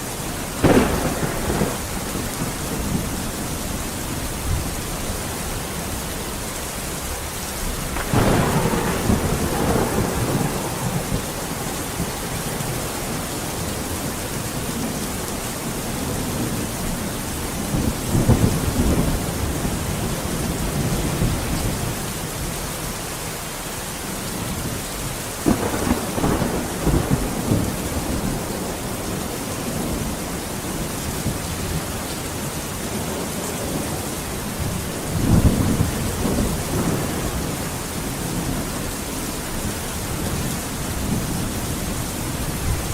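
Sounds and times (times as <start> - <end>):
steady rain falling: 0.0 - 42.9
thunder rumbling: 0.6 - 6.4, 7.2 - 17.0, 17.6 - 22.5, 24.6 - 42.9.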